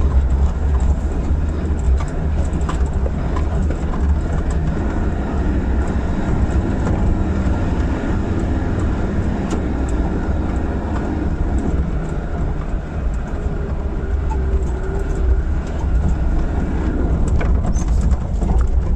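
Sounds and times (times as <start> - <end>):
clicks and rattles over bumps: 0.0 - 18.9
diesel engine droning: 0.0 - 18.9.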